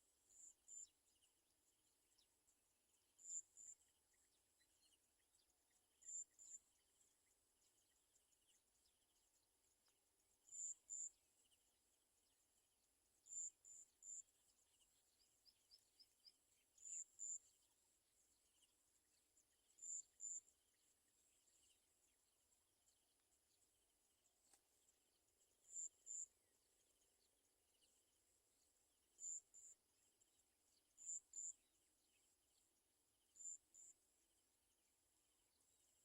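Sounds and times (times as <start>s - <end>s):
faint insect-like buzz: 0.0s - 36.0s.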